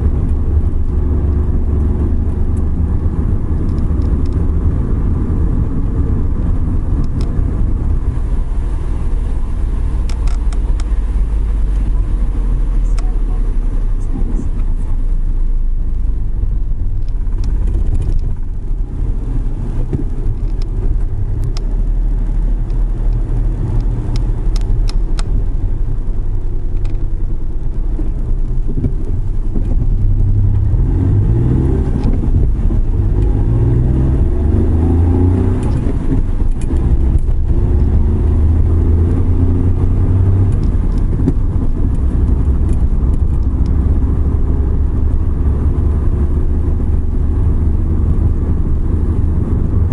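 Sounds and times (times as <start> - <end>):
van engine and road noise: 0.0 - 49.9.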